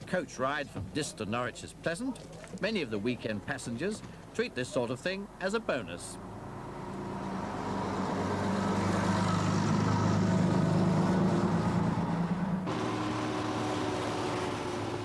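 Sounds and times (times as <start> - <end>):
coach engine humming: 2.9 - 15.0.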